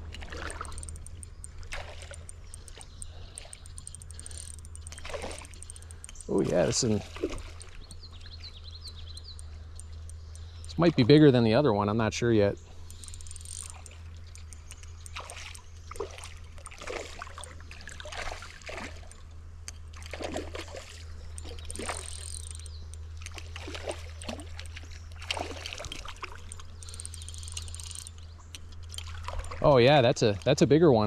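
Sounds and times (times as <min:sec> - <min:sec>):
water splashing and sloshing: 0:00.0 - 0:08.6, 0:12.8 - 0:30.7.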